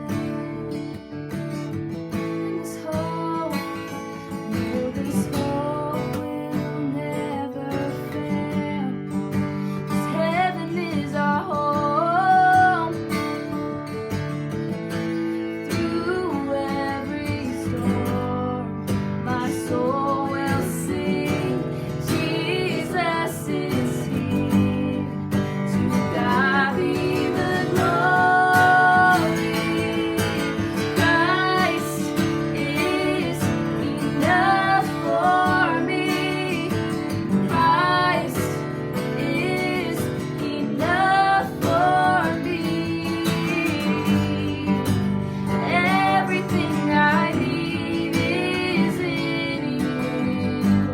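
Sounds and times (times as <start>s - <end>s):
acoustic guitar strumming: 0.0s - 50.9s
woman singing: 0.0s - 50.9s.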